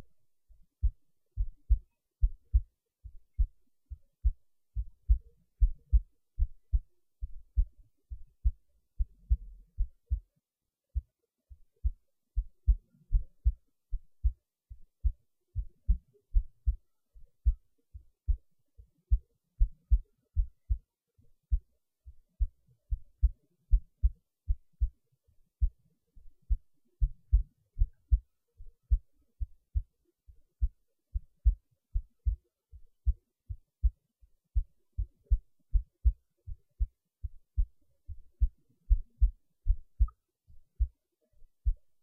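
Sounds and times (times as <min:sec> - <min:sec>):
fast heartbeat thumps: 0:00.5 - 0:10.2, 0:11.0 - 0:18.5, 0:19.1 - 0:20.8, 0:21.5 - 0:25.0, 0:25.6 - 0:34.0, 0:34.6 - 0:41.0.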